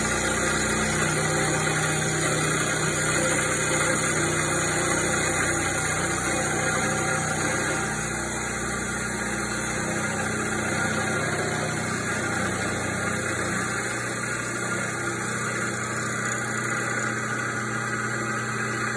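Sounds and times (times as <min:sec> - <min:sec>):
milling machine cutting metal: 0:00.0 - 0:18.9.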